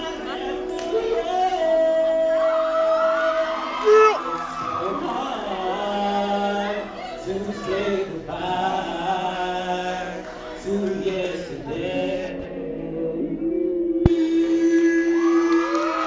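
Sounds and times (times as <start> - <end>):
person singing unaccompanied: 0.0 - 16.0.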